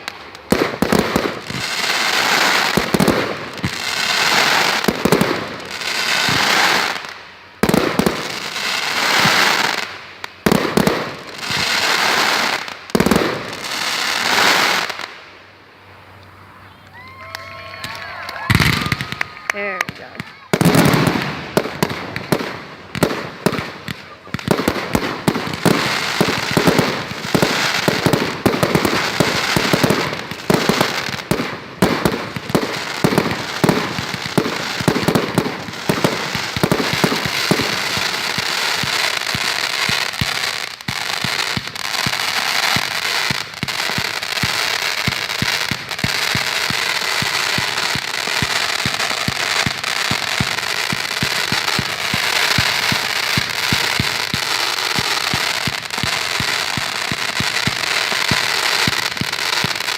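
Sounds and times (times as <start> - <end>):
sharp fireworks bangs: 0.0 - 15.1, 17.8 - 59.9
fireworks booming: 0.0 - 15.2, 17.1 - 59.9
fireworks crackling: 0.0 - 59.9.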